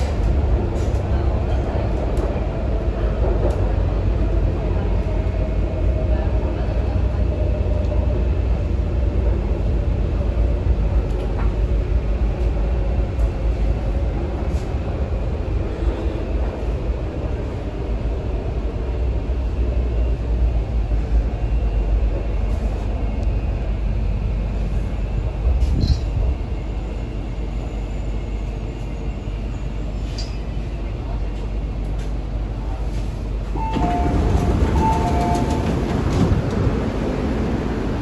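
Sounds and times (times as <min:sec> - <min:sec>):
faint train whine: 0:00.0 - 0:38.0
metro train wheels rumbling: 0:00.0 - 0:38.0.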